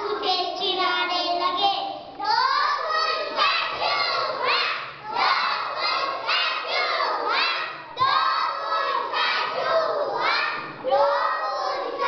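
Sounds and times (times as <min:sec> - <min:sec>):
young children shouting: 0:02.2 - 0:12.0.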